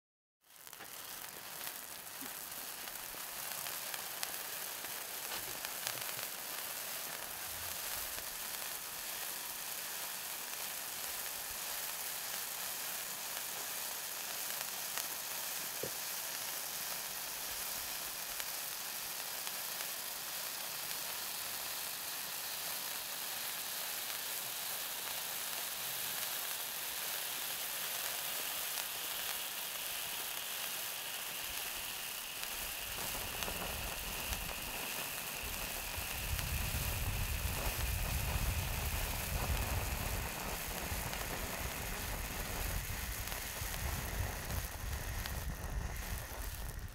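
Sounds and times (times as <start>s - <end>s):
faint crackles of sparks: 0.4s - 46.9s
spark fountains fizzing: 0.4s - 46.9s.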